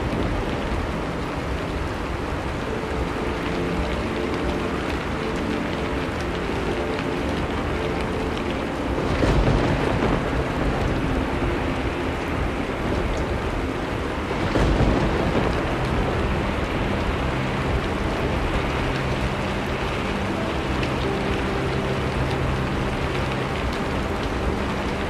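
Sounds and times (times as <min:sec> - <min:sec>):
soft rain: 0:00.0 - 0:25.0
thunder rumbling: 0:00.0 - 0:25.0.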